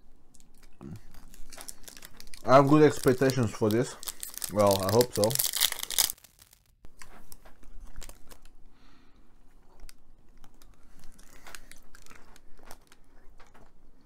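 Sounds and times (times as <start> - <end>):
wrapper crinkling: 0.4 - 8.7, 9.6 - 13.5.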